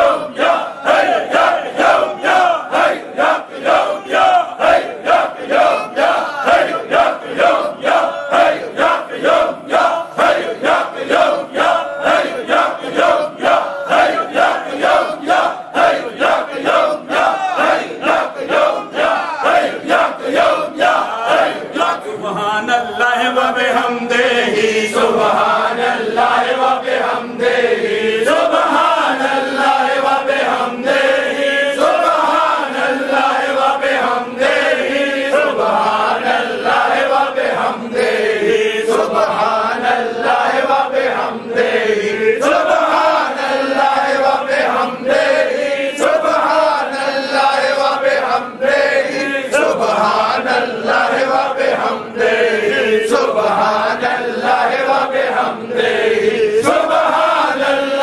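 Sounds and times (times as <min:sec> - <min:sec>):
men chanting together: 0:00.0 - 0:58.0.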